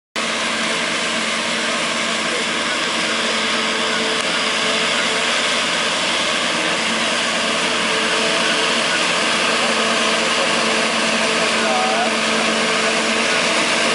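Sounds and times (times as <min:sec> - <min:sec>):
tractor and harvester running: 0:00.2 - 0:13.9.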